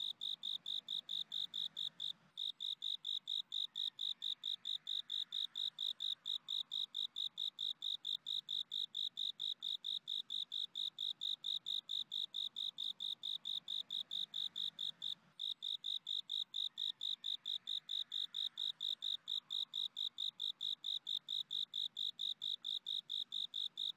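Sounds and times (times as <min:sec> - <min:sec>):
cricket chirping: 0:00.0 - 0:23.9.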